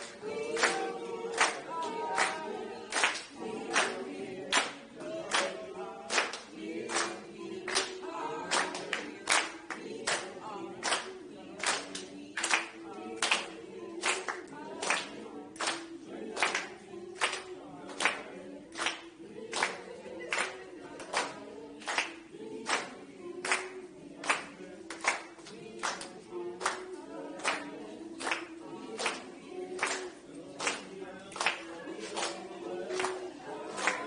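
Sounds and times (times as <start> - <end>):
group singing a cappella: 0.0 - 34.0
hand-clapping: 0.0 - 34.0.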